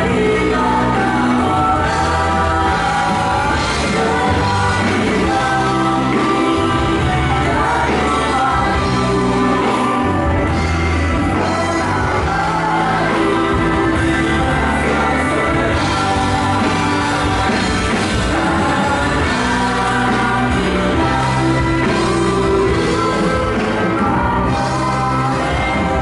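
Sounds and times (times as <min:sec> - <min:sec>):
group singing with instruments: 0:00.0 - 0:26.0.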